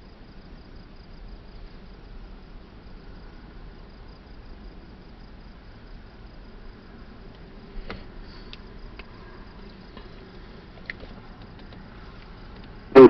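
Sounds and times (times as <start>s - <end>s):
faint insects chirping: 0.0s - 13.0s
low steady hiss: 0.0s - 13.0s.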